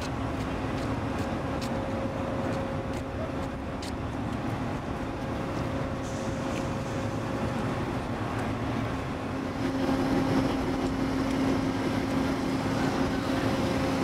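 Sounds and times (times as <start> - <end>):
crane machinery drone: 0.0 - 14.0.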